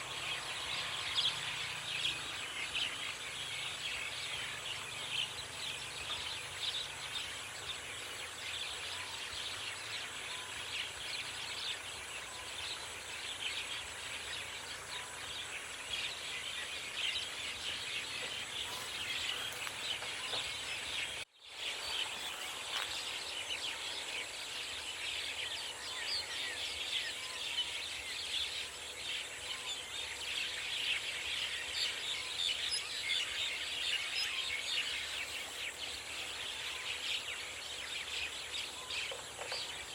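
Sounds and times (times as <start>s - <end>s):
forest birds chirping and singing: 0.0s - 39.9s
steady background hiss: 0.0s - 39.9s.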